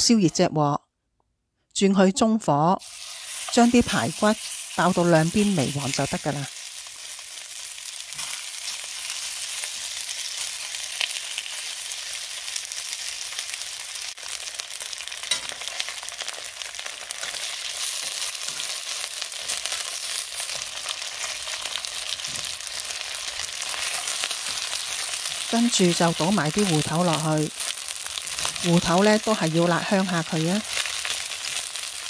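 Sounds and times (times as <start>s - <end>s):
meat sizzling in oil: 2.8s - 32.0s.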